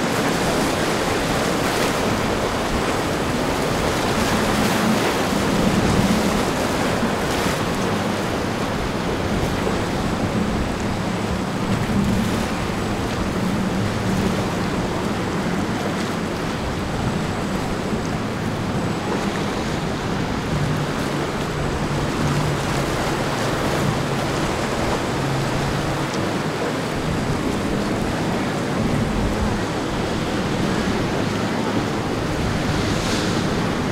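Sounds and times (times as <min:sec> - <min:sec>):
boat engines droning: 0:00.0 - 0:33.9
ocean waves washing: 0:00.0 - 0:33.9
wind buffeting microphone: 0:00.0 - 0:33.9.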